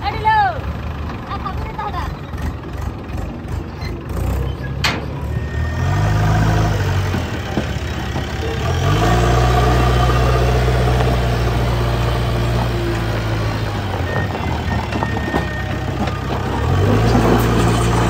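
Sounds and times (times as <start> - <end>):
backhoe loader engine: 0.0 - 18.0
tractor engine revving: 0.6 - 18.0.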